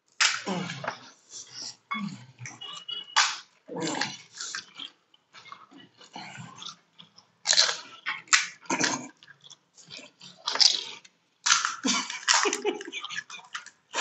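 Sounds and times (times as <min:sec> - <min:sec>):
people crunching crisp snacks: 0:00.1 - 0:14.0.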